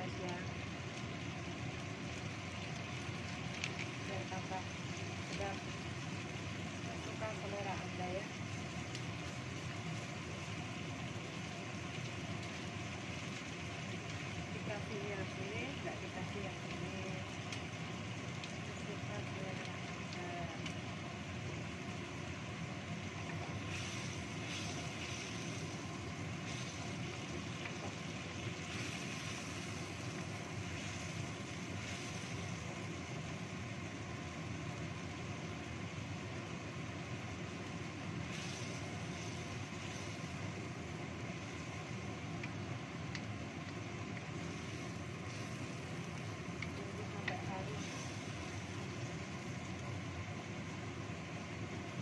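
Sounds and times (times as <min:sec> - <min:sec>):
gas burner rushing: 0:00.0 - 0:34.0, 0:37.5 - 0:49.9
sauce sizzling and bubbling: 0:00.0 - 0:52.0.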